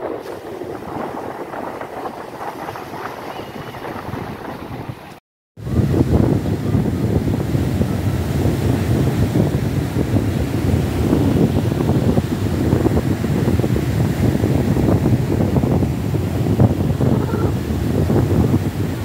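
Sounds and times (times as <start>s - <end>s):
sea waves breaking on beach: 0.0s - 19.0s
wind rumble on microphone: 0.0s - 19.0s.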